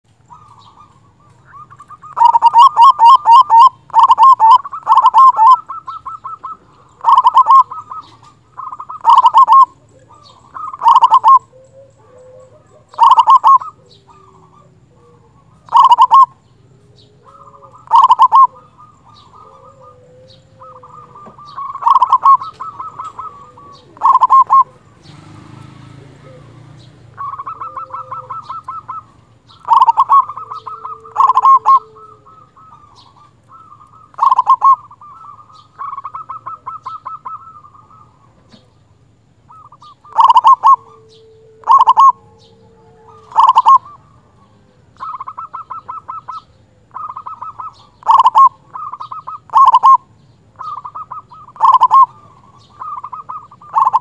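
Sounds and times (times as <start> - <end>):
dove cooing: 0.1 - 54.0.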